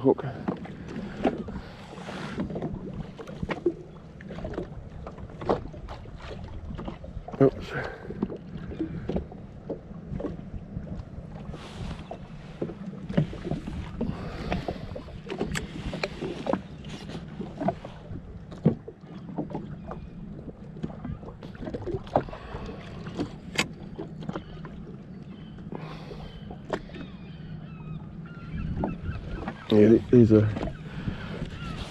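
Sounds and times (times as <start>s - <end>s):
water slapping against hull: 0.0s - 31.9s.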